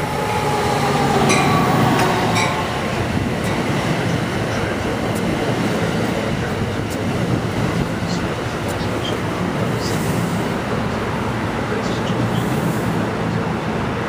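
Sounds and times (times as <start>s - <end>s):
train rumbling past on rails: 0.0s - 14.0s.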